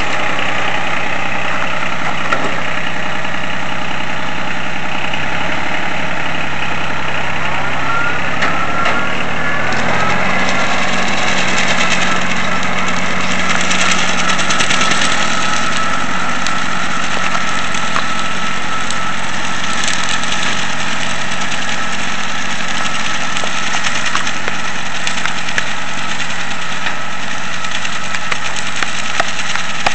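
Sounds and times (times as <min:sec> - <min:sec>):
rotary mower: 0:00.0 - 0:29.9
tractor diesel engine running: 0:00.0 - 0:29.9.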